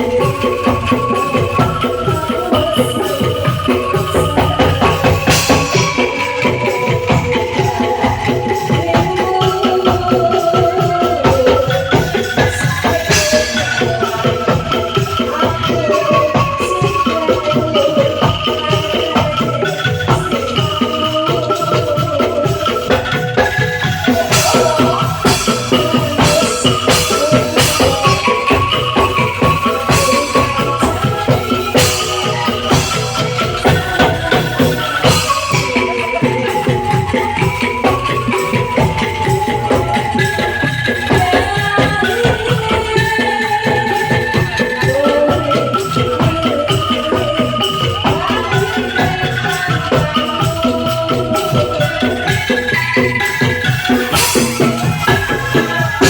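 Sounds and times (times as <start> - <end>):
bamboo tubes rattling melody: 0.0 - 56.0
sharp percussion hits: 0.0 - 56.0.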